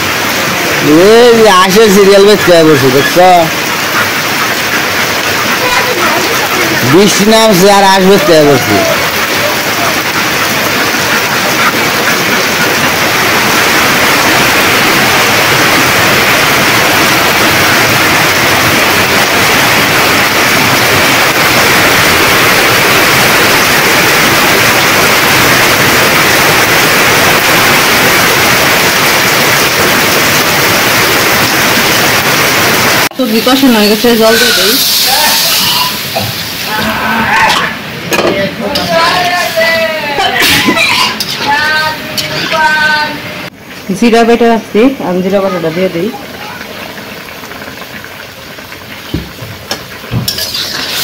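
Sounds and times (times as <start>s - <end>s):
heavy rain on metal roofs: 0.0s - 51.0s.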